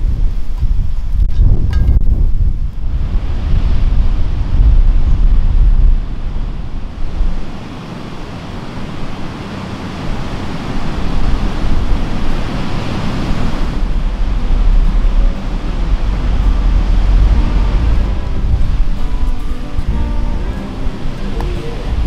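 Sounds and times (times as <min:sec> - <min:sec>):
surf breaking on a beach: 0:00.0 - 0:22.0
wind buffeting the microphone: 0:00.0 - 0:22.0.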